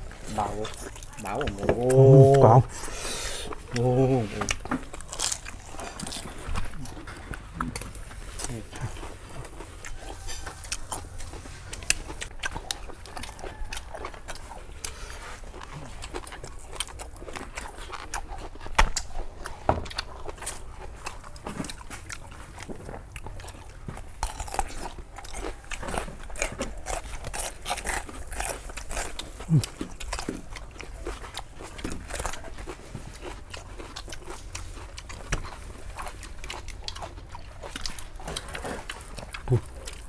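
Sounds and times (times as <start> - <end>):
chewing and crunching food: 0.0 - 40.0.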